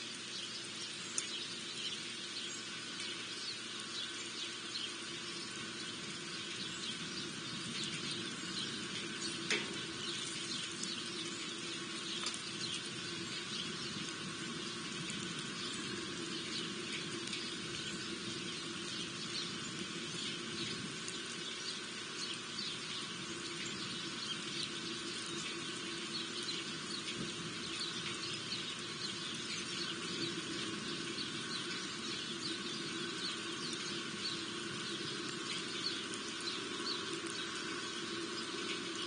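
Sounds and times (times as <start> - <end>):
small birds chirping: 0.0 - 39.0
steady background hum: 0.0 - 39.0.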